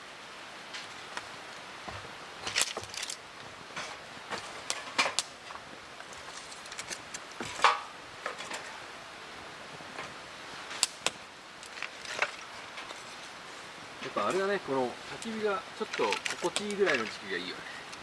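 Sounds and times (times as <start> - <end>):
campfire wood crackling: 0.0 - 18.0.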